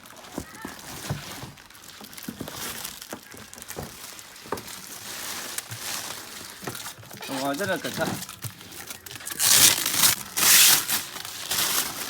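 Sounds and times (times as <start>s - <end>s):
packaging rustling and clicking: 0.0s - 12.0s.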